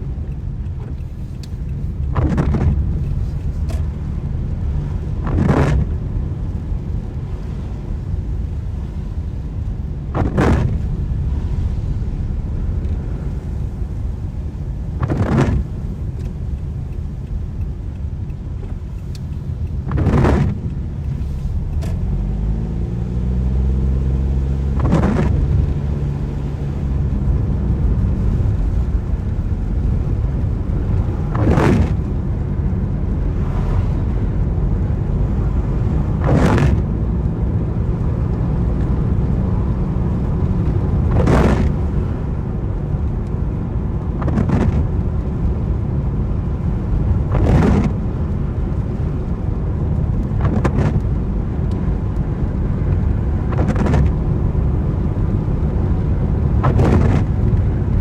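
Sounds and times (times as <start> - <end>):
car engine and tyres rumbling: 0.0 - 58.0
windscreen wipers swishing: 0.0 - 58.0.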